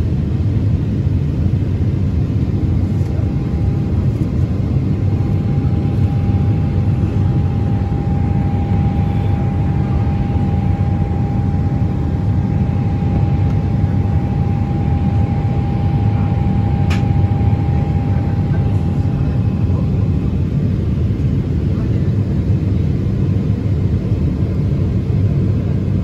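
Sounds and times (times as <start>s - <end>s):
jet engines rumbling in cabin: 0.0s - 26.0s
steady whine: 0.0s - 26.0s.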